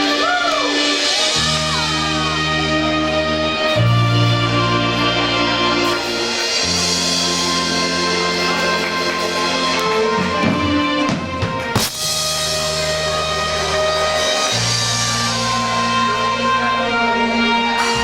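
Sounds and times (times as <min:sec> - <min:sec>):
held low bass notes: 0:01.3 - 0:18.0.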